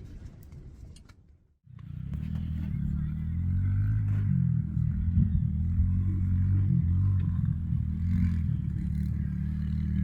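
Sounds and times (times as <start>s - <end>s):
engine running: 1.7s - 10.0s.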